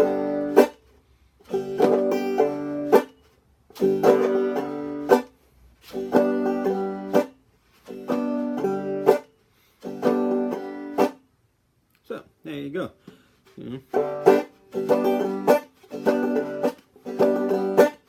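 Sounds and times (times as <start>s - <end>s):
banjo strummed chords: 0.0s - 0.8s, 1.4s - 11.2s, 13.8s - 18.0s
banjo clawhammer playing: 0.0s - 11.3s, 13.8s - 18.0s.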